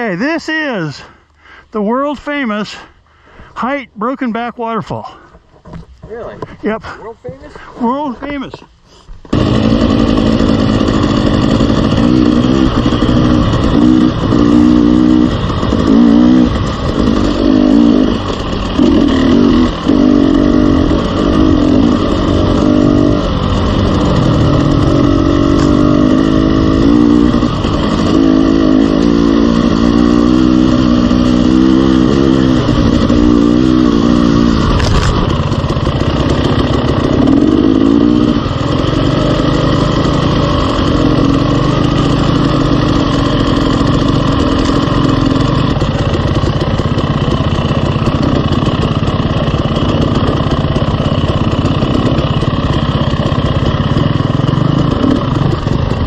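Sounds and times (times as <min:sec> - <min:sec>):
dirt bike engine revving: 0:09.3 - 0:56.0.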